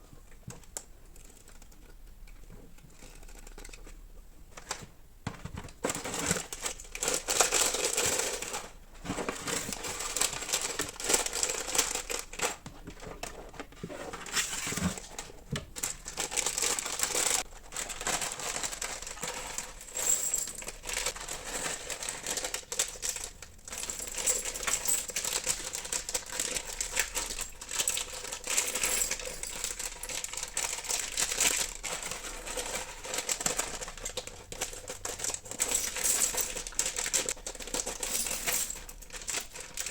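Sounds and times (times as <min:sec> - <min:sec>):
plastic packaging crinkling: 0:05.5 - 0:38.1.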